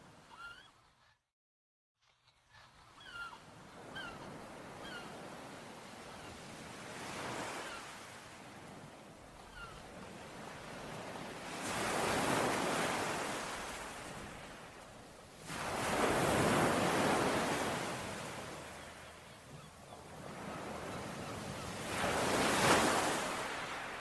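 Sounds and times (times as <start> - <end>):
sea waves breaking on shore: 3.5 - 24.0.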